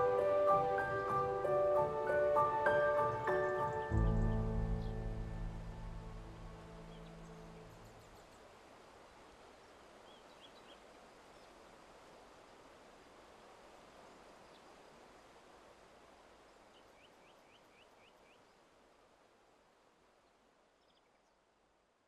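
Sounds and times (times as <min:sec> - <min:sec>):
faint outdoor hiss: 0:00.0 - 0:22.0.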